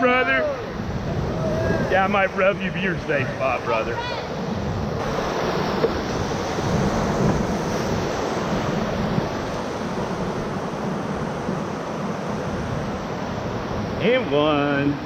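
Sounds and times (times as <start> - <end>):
whitewater rapids rushing: 0.0 - 15.0.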